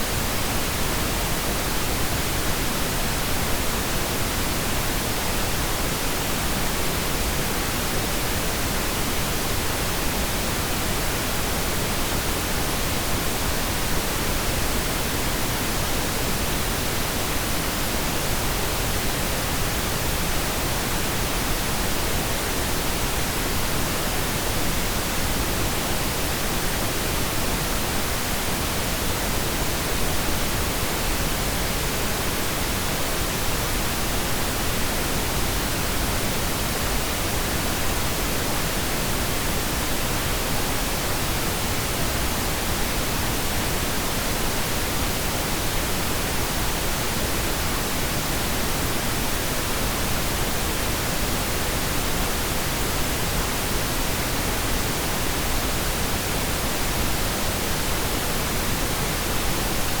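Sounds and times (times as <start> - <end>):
steady pink noise hiss: 0.0 - 60.0.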